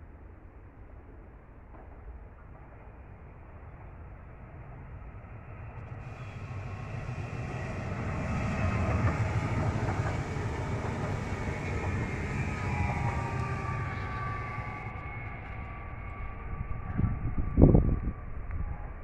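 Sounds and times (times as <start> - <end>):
faint whine: 1.7 - 19.0
electric train passing: 3.1 - 19.0.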